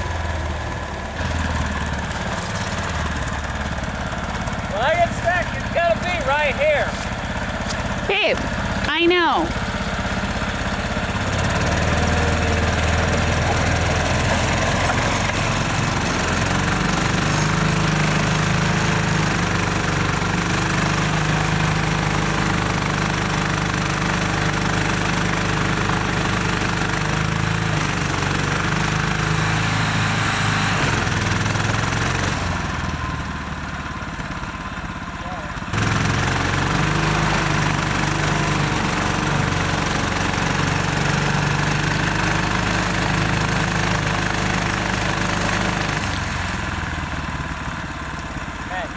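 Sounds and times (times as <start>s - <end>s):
tires churning through mud: 0.0s - 8.9s, 9.5s - 48.9s
vehicle engine under load: 0.0s - 48.9s.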